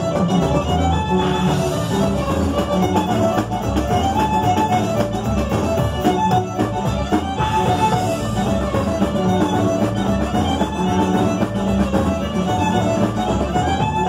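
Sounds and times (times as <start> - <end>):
accordion: 0.0 - 14.0
bass and guitar: 0.0 - 14.0
violin melody: 0.0 - 14.0.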